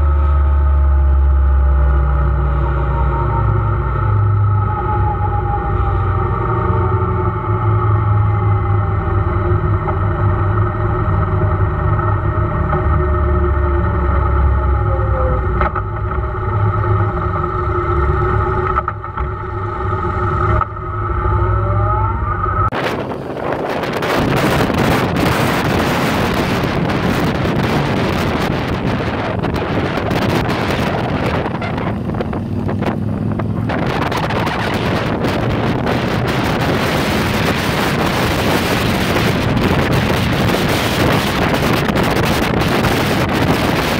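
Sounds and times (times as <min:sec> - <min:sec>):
wind rushing over microphone: 0:00.0 - 0:43.9
motorcycle engine running: 0:05.8 - 0:43.9.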